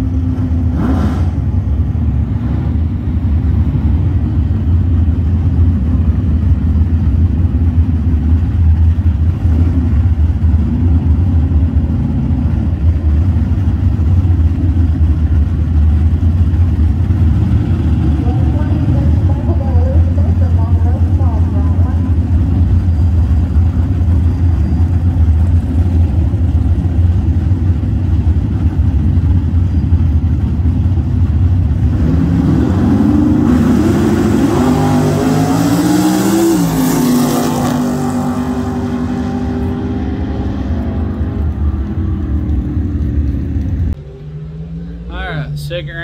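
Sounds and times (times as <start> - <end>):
drag race car engines revving: 0.0 - 46.0.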